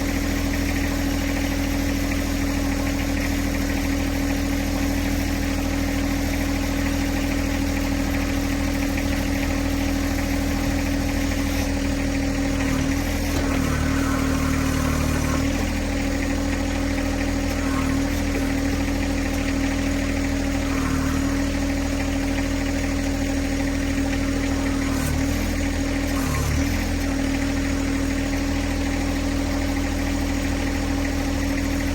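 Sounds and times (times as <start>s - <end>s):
diesel tractor engine running: 0.0s - 31.9s.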